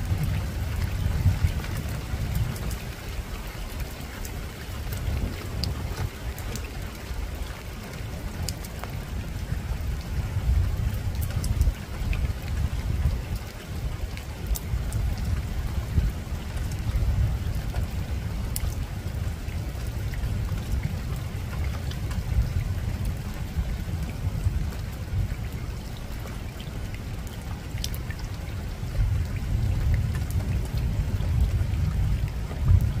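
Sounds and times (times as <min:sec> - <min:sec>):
rain on a rooftop: 0:00.0 - 0:33.0
raindrops ticking: 0:00.0 - 0:33.0.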